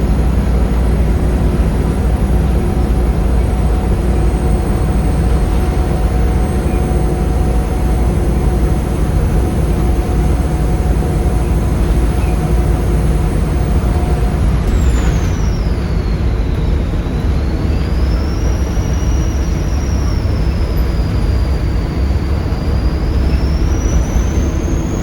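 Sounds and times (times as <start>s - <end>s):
constant mid-pitched tone: 0.0s - 25.0s
diesel bus engine droning: 0.0s - 25.0s
high turbo whistle: 0.3s - 25.0s.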